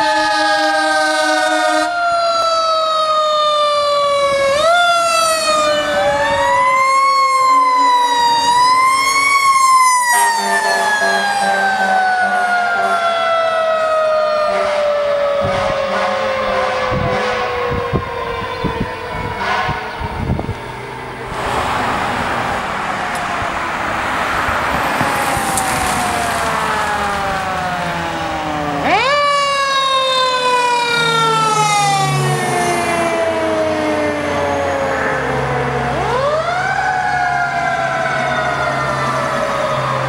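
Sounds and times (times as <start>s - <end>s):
fire engine siren: 0.0s - 40.0s
truck engine rumble: 2.0s - 40.0s.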